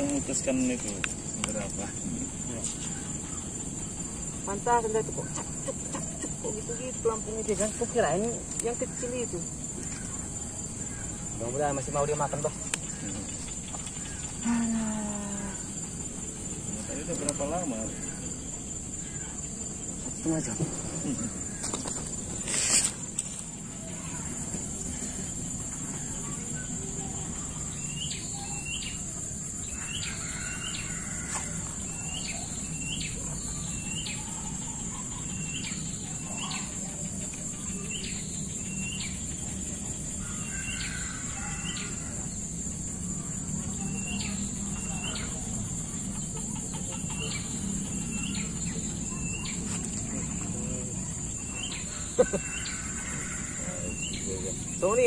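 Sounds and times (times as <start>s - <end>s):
bird chirping: 0.0s - 55.0s
insects droning: 0.0s - 55.0s.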